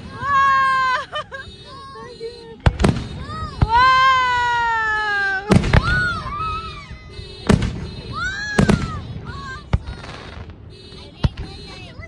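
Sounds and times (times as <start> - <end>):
fireworks bangs: 0.0 - 12.0
fireworks whistling: 0.0 - 12.0.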